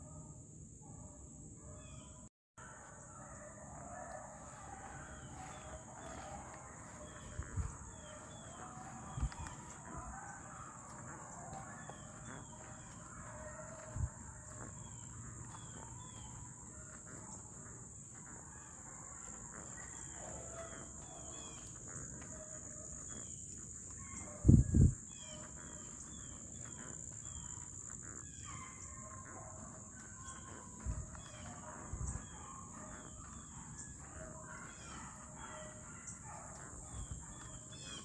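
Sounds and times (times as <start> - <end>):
distant dogs baying: 0.0 - 38.0
insects droning: 2.7 - 38.0.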